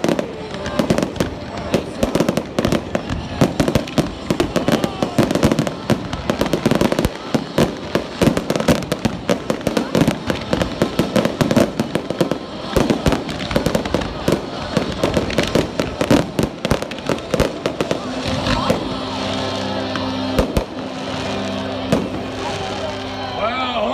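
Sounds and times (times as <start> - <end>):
fireworks bangs and crackles: 0.0 - 23.9.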